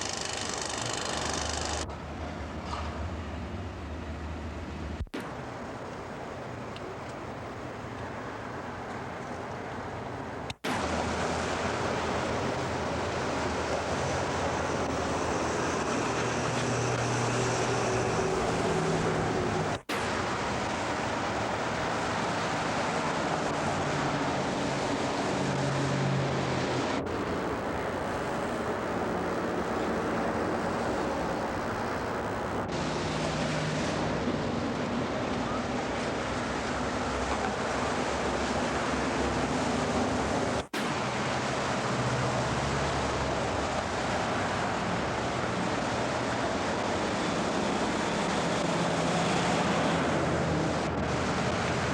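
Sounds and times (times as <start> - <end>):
road traffic rushing: 0.0 - 51.9.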